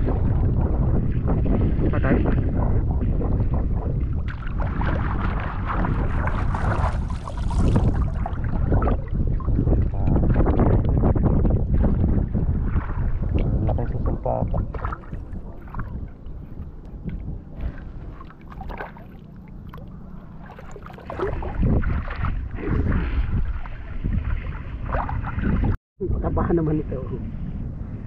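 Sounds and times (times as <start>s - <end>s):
water splashing around wading person: 0.0s - 25.8s
low rumble: 0.0s - 28.0s.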